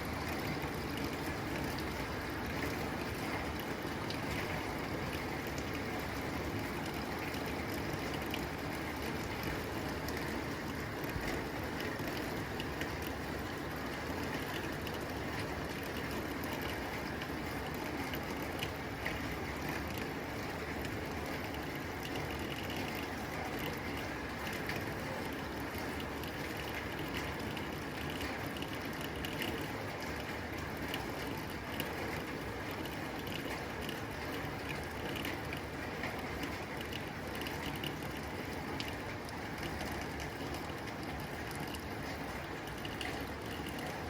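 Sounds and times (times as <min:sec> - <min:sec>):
rain on a tin roof: 0:00.0 - 0:44.0.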